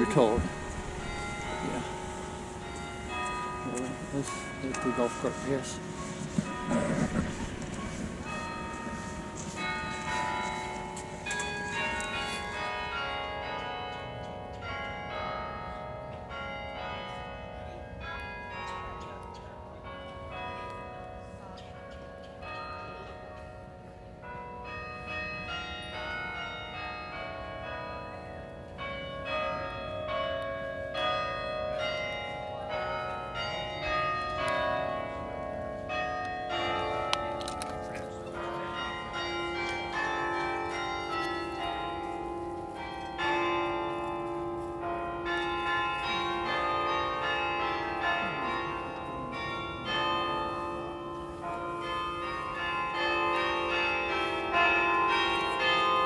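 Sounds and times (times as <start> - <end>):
carillon bells playing melody: 0.0 - 19.2, 24.6 - 56.0.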